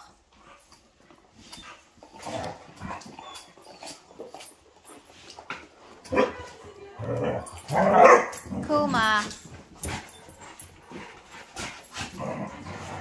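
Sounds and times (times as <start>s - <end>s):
dog noises: 0.0s - 13.0s
dogs scuffling: 0.0s - 13.0s.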